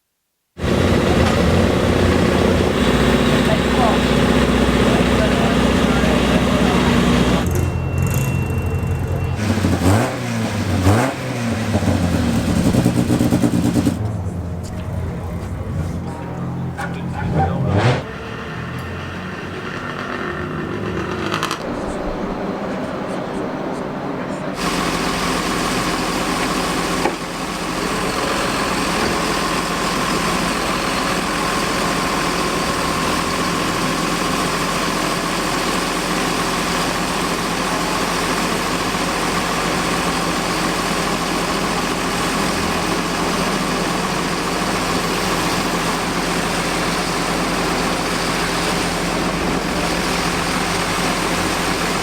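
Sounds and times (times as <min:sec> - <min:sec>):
car engine idling: 0:00.6 - 0:52.0.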